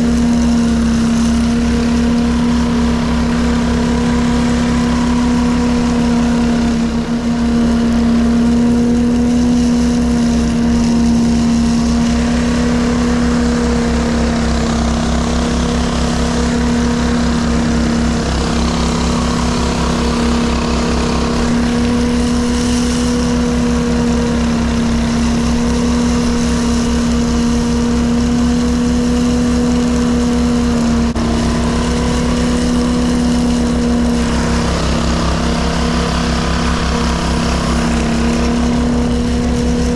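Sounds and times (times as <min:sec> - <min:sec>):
blower engine droning: 0:00.0 - 0:39.9.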